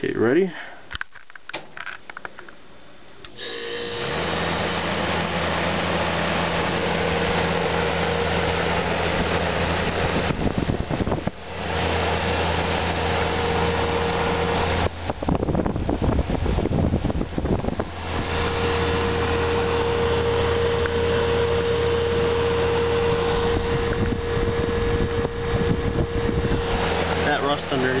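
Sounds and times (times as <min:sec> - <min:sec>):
dehumidifier humming: 0:01.5 - 0:28.0.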